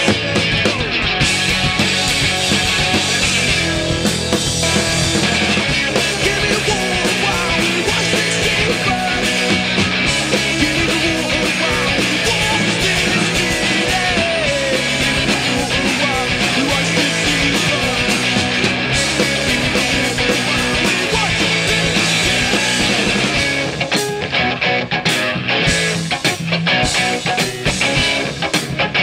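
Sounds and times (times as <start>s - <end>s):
rock band playing live: 0.0s - 29.0s.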